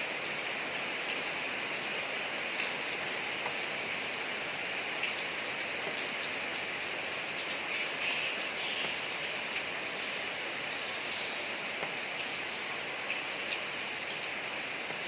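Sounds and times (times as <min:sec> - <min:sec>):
rain hissing on street: 0:00.0 - 0:15.0
water drips: 0:02.5 - 0:15.0.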